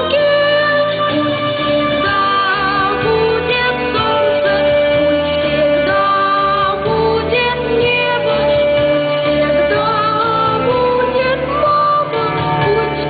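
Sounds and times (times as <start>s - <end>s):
instrumental accompaniment: 0.0s - 13.0s.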